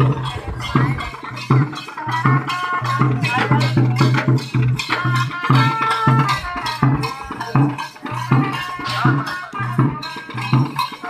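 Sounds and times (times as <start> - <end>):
hand drums beating quick rhythm: 0.0 - 11.0.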